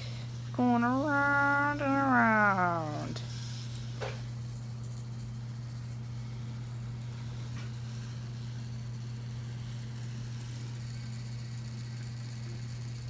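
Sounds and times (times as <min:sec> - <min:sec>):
toy train motor humming: 0:00.0 - 0:13.0.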